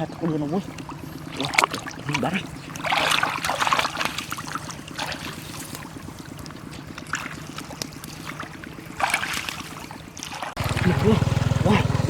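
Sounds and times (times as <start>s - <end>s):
steady low hum: 0.0s - 12.0s
water splashing and trickling: 0.0s - 12.0s.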